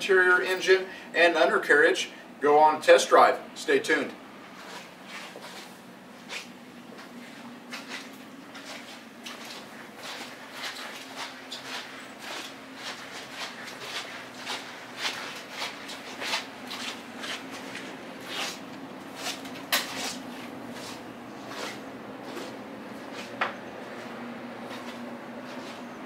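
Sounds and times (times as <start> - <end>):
steady low hum: 0.0 - 26.0
footsteps and shuffling: 4.4 - 26.0.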